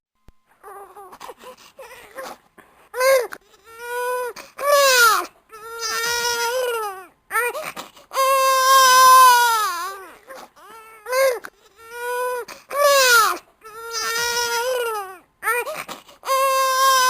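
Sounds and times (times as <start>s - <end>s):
baby crying: 0.6s - 2.4s, 3.0s - 17.0s.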